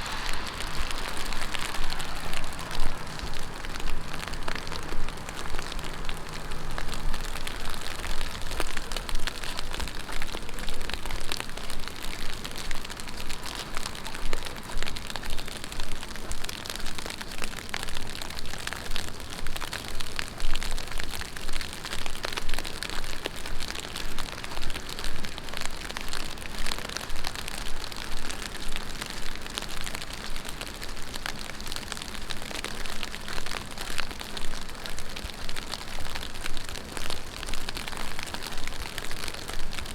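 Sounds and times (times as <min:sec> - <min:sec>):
heavy rain on street: 0:00.0 - 0:39.9.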